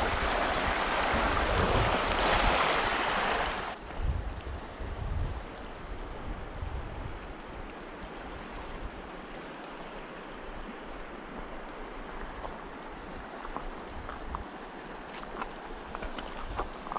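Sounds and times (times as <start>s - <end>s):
stream rushing over stones: 0.0s - 16.9s.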